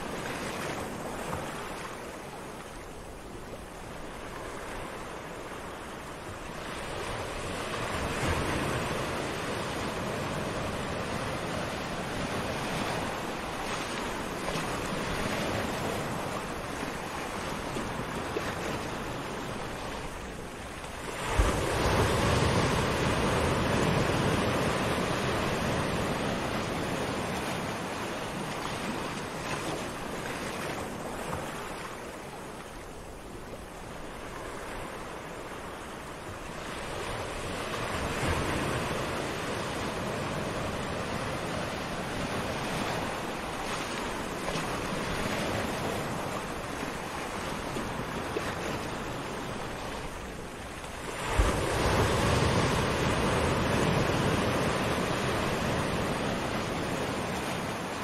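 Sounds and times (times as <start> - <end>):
surf washing on sandy beach: 0.0 - 58.0.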